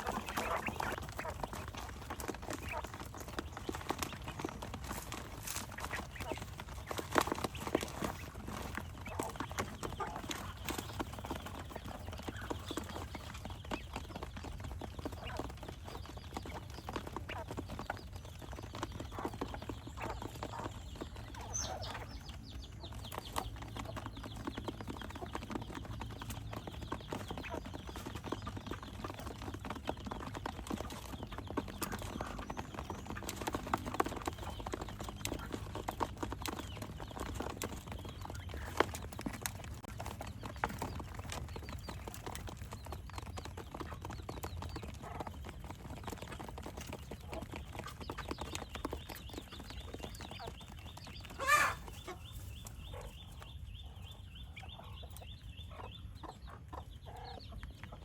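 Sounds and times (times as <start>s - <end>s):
quail pecking and scratching: 0.0s - 58.0s.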